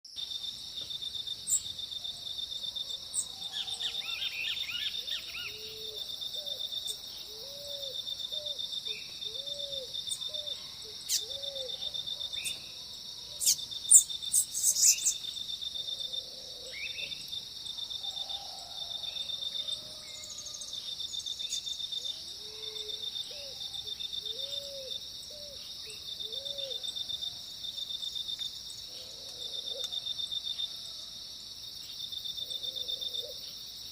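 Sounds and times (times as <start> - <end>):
high insect trill: 0.1 - 33.9
birds singing: 1.4 - 27.3, 28.6 - 31.0.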